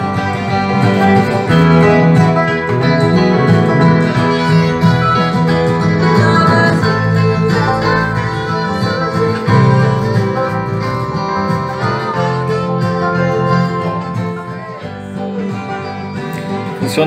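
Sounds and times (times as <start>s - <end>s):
multitrack song through speakers: 0.0s - 17.0s.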